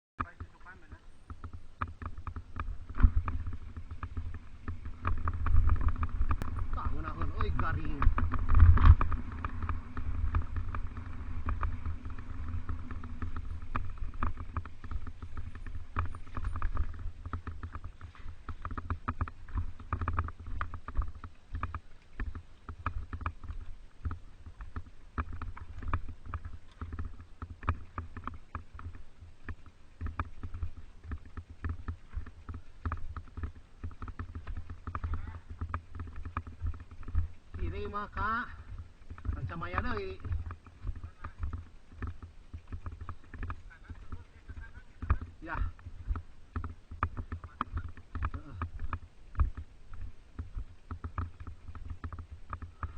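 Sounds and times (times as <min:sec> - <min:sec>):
wind rumble on microphone: 0:00.2 - 0:52.9
bike rattling clicks: 0:01.2 - 0:44.2.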